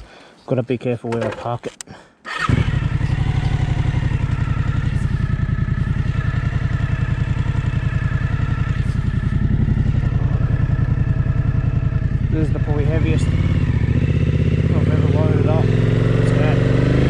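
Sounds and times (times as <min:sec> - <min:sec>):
motorcycle engine idling: 0:02.3 - 0:17.0.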